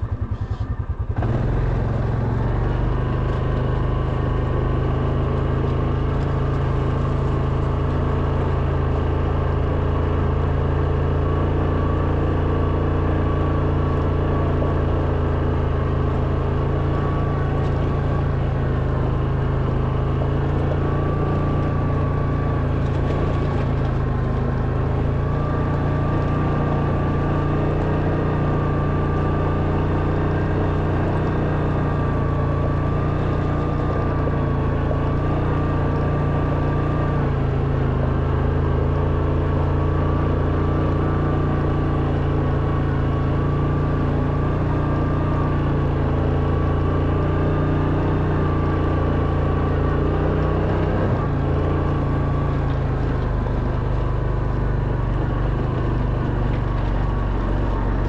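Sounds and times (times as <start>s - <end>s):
low motor drone: 0.0s - 58.0s.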